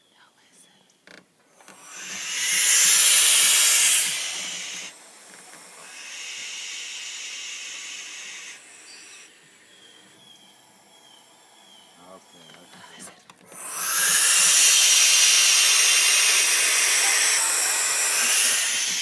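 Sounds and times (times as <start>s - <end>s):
owls hissing: 1.6s - 19.0s.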